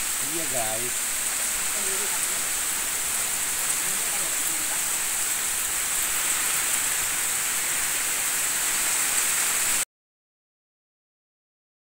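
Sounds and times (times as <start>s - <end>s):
heavy rain falling: 0.0s - 9.8s.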